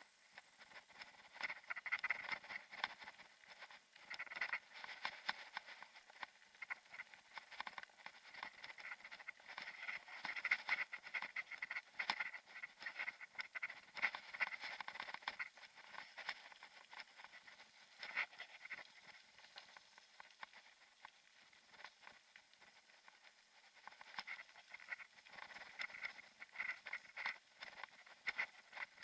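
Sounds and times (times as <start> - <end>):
bike rattling over gravel: 0.5 - 29.0.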